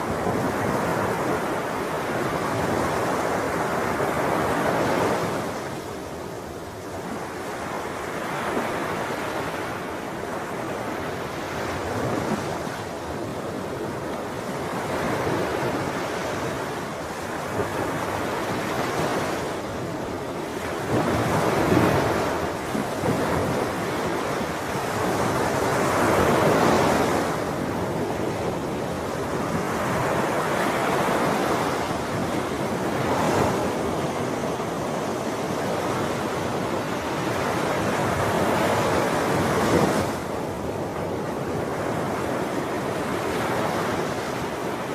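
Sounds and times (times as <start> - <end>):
ocean waves breaking on shore: 0.0 - 44.9
wind noise on microphone: 0.0 - 44.9.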